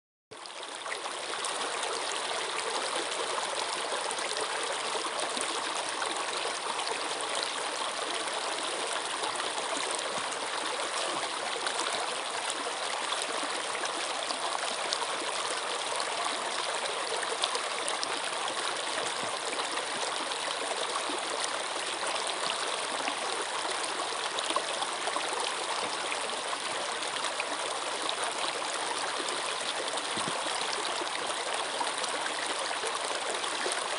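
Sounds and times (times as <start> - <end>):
stream water rushing: 0.7 - 33.9.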